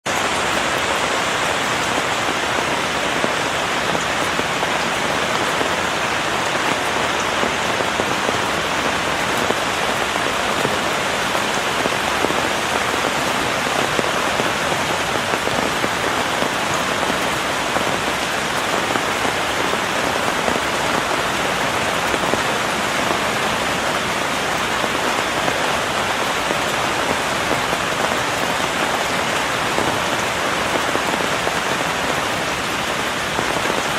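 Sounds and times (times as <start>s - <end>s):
rain on fabric umbrella: 0.0s - 33.9s.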